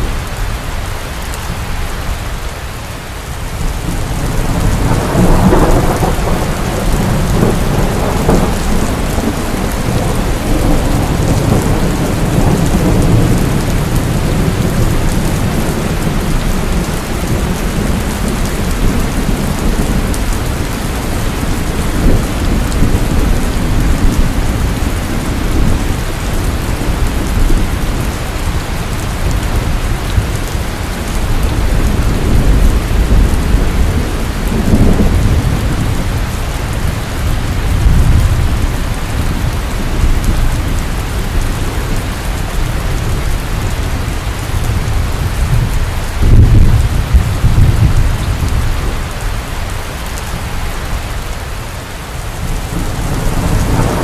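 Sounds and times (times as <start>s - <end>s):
heavy rain: 0.0s - 54.0s
rolling thunder: 3.5s - 49.1s, 52.2s - 54.0s.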